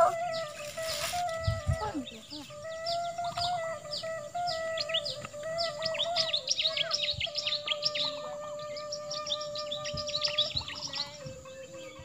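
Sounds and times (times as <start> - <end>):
high falling bird chirps: 0.0 - 12.0.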